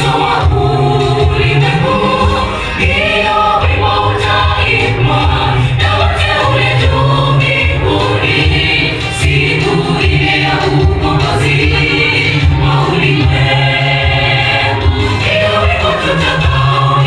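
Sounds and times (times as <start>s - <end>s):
choir singing gospel song: 0.0s - 17.0s.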